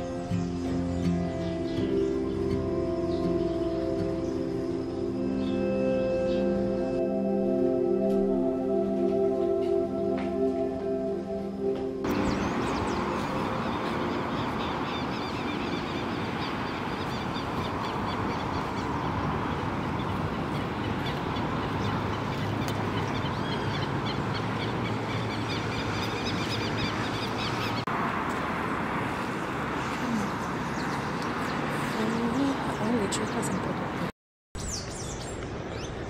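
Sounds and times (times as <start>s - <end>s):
birds chirping: 0.0s - 36.0s
road traffic noise: 0.0s - 36.0s.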